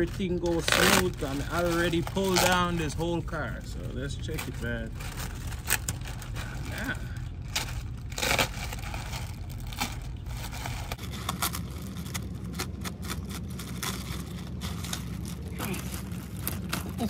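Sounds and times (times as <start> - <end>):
plastic packaging crinkling and tearing: 0.0 - 17.0
steady low rumble: 0.0 - 17.0.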